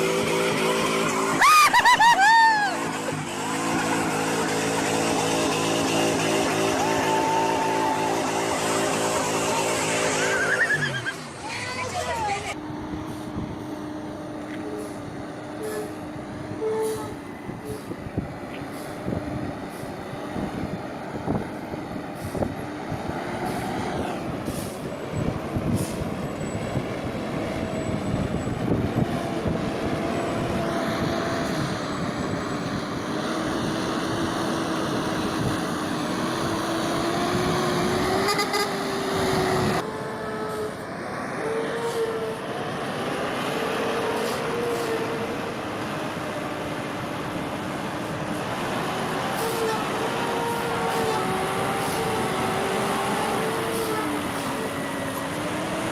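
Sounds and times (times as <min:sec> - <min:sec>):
heavy truck engines under load: 0:00.0 - 0:55.9.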